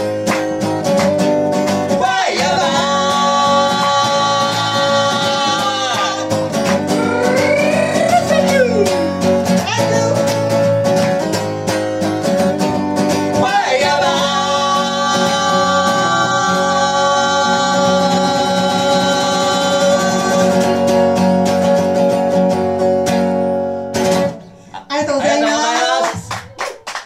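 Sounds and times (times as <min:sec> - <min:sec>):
strummed acoustic guitar: 0:00.0 - 0:25.4.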